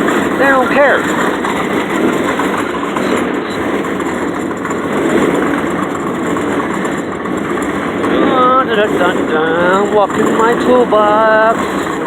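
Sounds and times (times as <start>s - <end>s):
tool chest casters rumbling on pavement: 0.0s - 12.0s.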